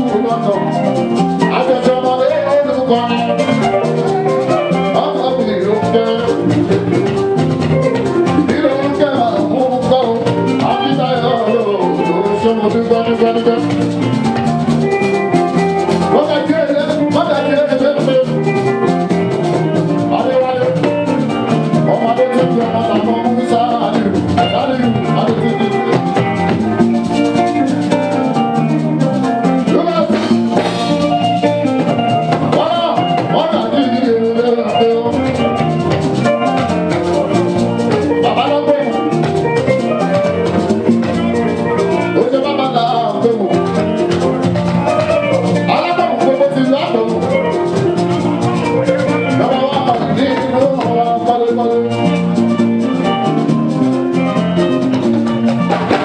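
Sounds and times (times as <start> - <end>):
band music with drums and percussion: 0.0 - 56.0.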